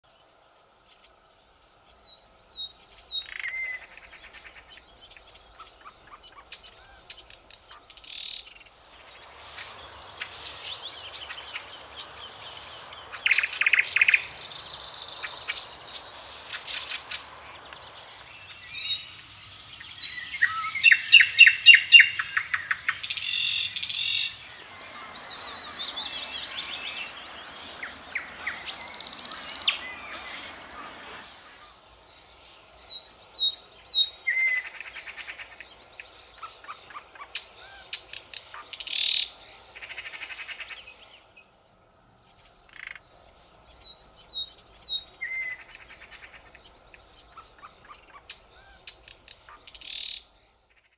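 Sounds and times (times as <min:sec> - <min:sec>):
thrush nightingale singing: 0:00.1 - 0:50.9.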